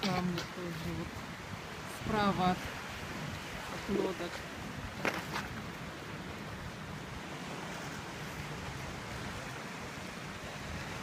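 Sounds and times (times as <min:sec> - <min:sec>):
ocean surf against rocks: 0:00.0 - 0:11.0
wind: 0:00.0 - 0:11.0.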